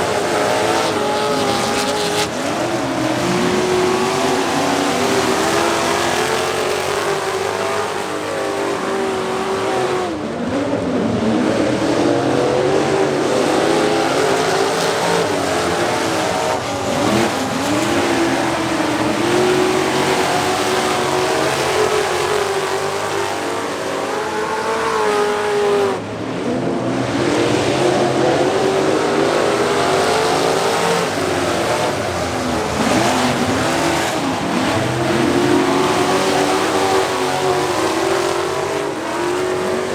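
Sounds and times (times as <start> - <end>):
race truck engines: 0.0 - 39.9.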